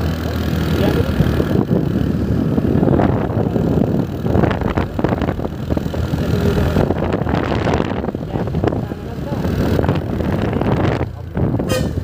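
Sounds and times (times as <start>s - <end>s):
low vehicle noise: 0.0s - 12.0s
wind buffeting microphone: 0.8s - 12.0s.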